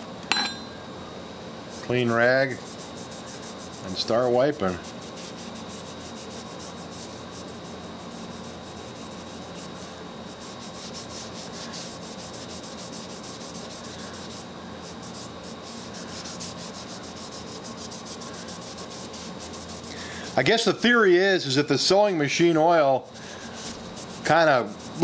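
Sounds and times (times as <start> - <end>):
cloth rag rubbing on metal: 1.8 - 21.0, 23.2 - 25.0.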